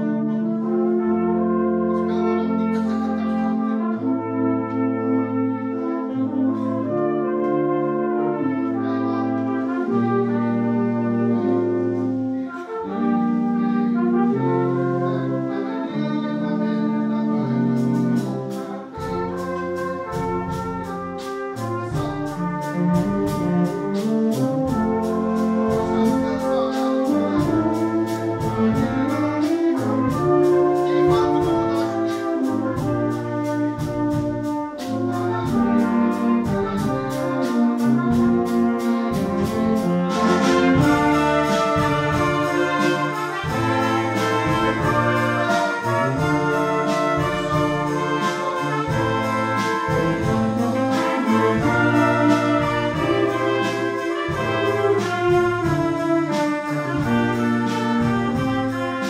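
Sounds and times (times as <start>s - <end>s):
brass ensemble playing: 0.0s - 59.0s.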